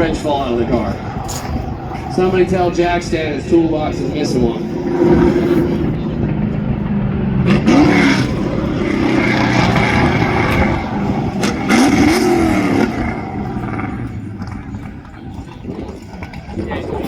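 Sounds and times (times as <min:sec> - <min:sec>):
race truck engine accelerating: 0:00.0 - 0:17.0.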